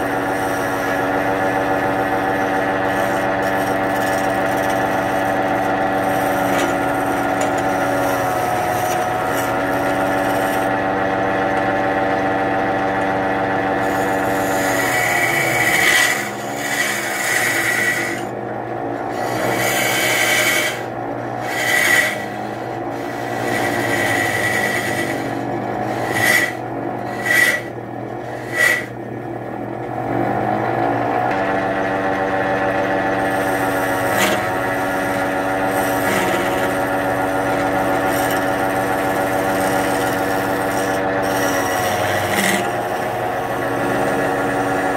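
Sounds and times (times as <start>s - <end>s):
chisel scraping spinning wood: 0.0s - 44.9s
wood lathe humming: 0.0s - 44.9s.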